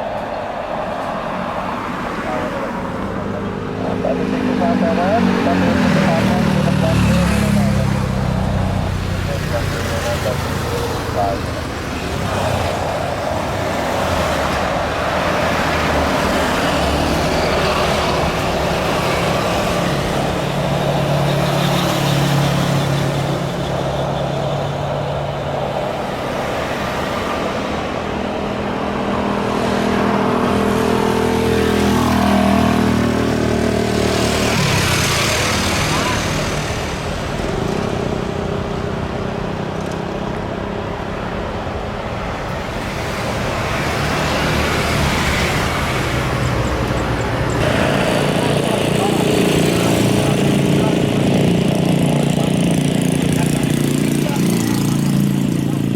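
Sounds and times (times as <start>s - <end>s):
road traffic: 0.0s - 55.9s
vehicle engine hum: 0.0s - 55.9s
vehicle rushing past: 0.0s - 55.9s.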